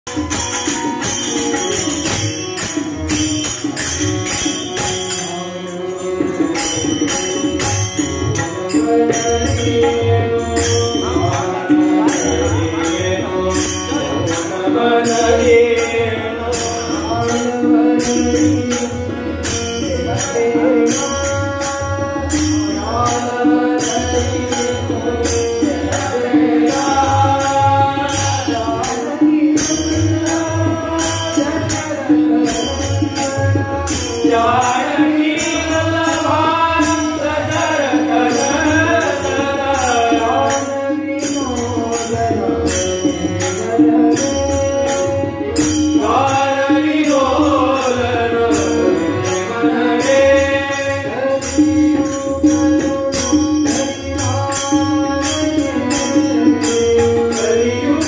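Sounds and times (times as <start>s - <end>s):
harmonium: 0.0s - 58.0s
tabla: 0.0s - 58.0s
hand cymbals: 0.1s - 58.0s
men singing devotional song: 4.1s - 58.0s.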